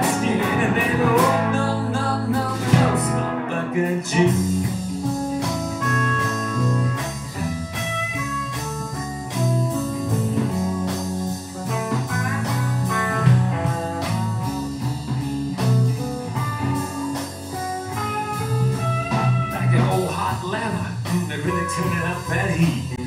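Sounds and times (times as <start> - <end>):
blues-rock band playing: 0.0 - 23.0
lead electric guitar: 0.0 - 23.0.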